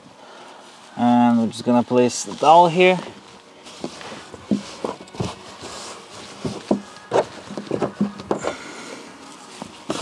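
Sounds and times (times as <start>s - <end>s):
towel rustling: 0.3s - 10.0s.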